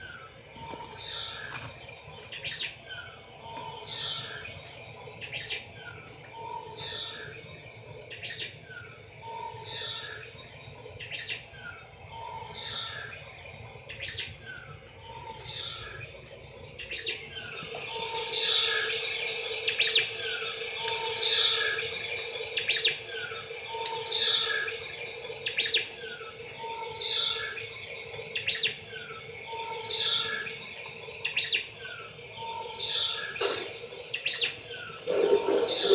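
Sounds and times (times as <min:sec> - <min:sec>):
bird chirps: 0:00.0 - 0:35.9
steady hum and hiss: 0:00.0 - 0:35.9.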